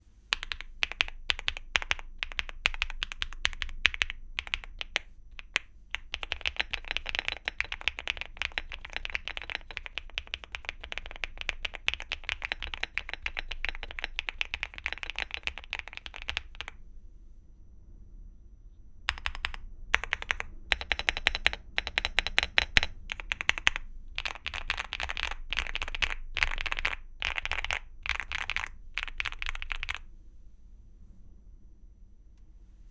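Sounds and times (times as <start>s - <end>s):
mechanical keyboard typing: 0.3s - 16.8s, 19.1s - 30.1s.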